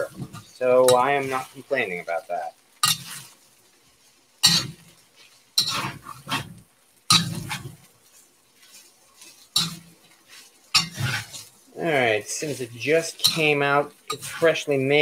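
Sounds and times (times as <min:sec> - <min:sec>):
spatula scraping a wok: 0:00.0 - 0:15.0.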